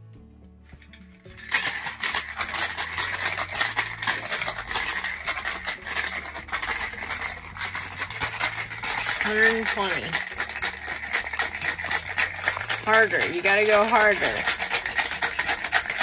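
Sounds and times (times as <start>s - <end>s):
background music: 0.0s - 16.0s
ice rattling in cocktail shaker: 0.8s - 16.0s.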